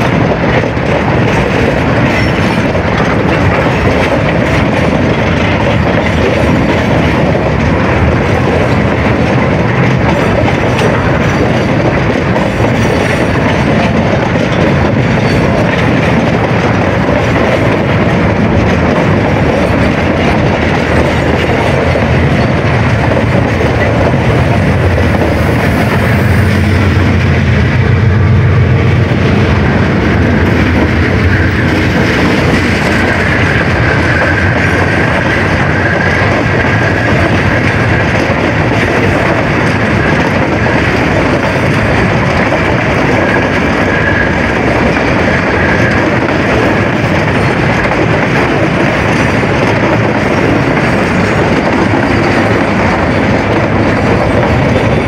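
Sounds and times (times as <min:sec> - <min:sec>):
diesel locomotive engine drone: 0:00.0 - 0:55.0
train wheels clacking over rail joints: 0:00.0 - 0:55.0.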